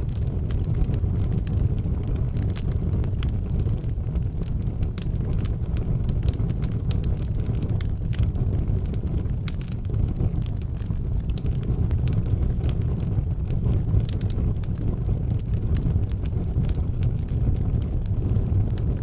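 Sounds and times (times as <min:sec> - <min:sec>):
low rumble: 0:00.0 - 0:19.0
wood fire crackling and popping: 0:00.0 - 0:19.0.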